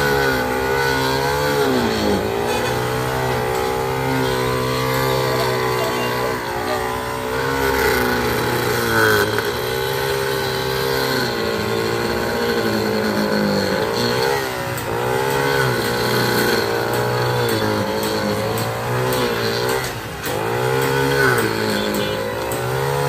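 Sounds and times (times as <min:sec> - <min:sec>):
small engine running hard: 0:00.0 - 0:23.0.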